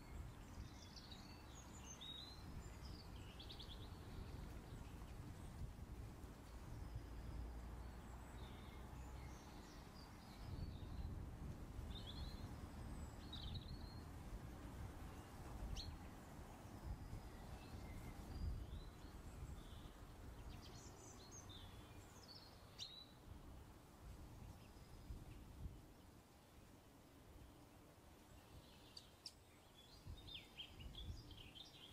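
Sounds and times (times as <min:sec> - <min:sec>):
bird chirps and warbles: 0:00.0 - 0:31.9.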